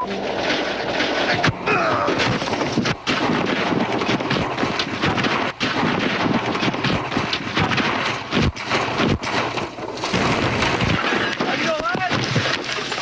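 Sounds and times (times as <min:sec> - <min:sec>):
car body knocks and crunches: 0:01.0 - 0:13.0.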